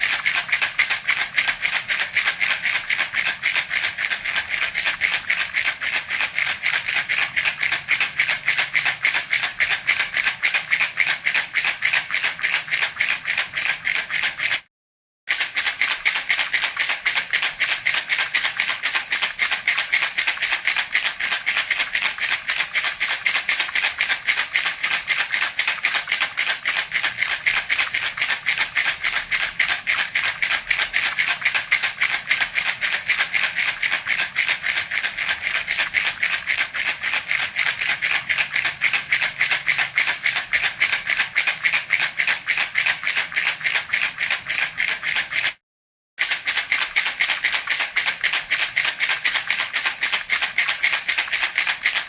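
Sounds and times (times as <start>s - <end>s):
baby rattle shaken: 0.0s - 14.7s, 15.3s - 45.6s, 46.2s - 52.0s.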